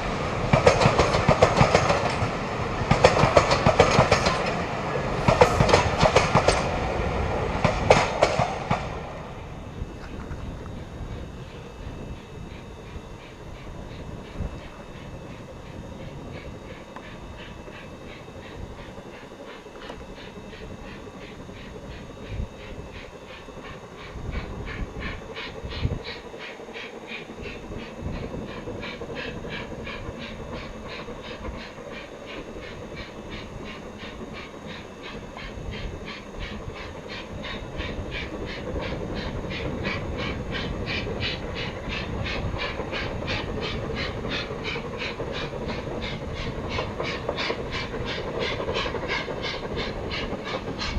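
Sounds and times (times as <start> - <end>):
steam locomotive exhaust puffing: 0.0 - 50.9.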